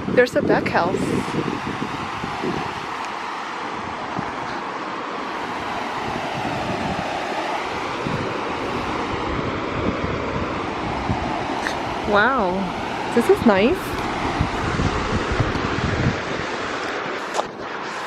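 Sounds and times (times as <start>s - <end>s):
steady rushing noise outdoors: 0.0s - 18.0s.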